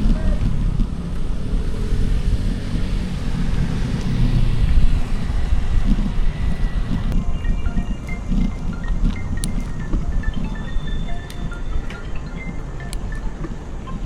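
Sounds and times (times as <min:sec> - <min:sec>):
wind buffeting microphone: 0:00.0 - 0:13.9
bike tyre noise on road: 0:00.0 - 0:14.0.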